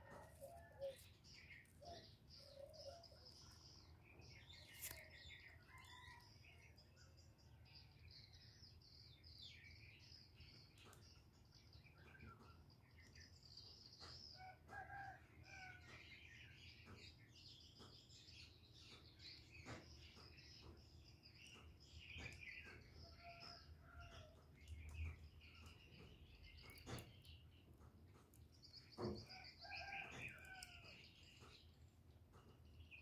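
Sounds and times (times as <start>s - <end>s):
faint birds chirping: 0.0s - 33.0s.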